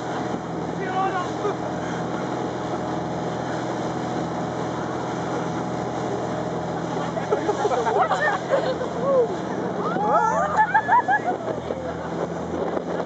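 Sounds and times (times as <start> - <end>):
speedboat engine humming: 0.0 - 13.0
wind and water rushing: 0.0 - 13.0.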